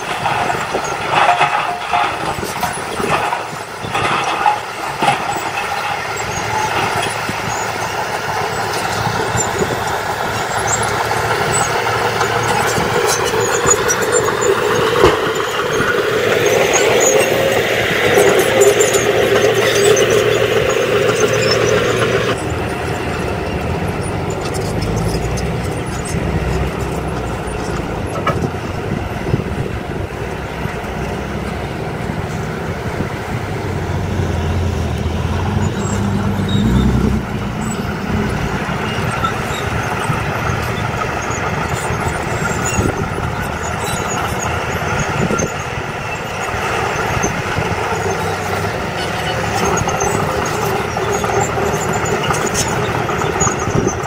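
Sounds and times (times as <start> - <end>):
diesel engines running: 0.0 - 54.0
steel tracks squealing: 0.0 - 54.0.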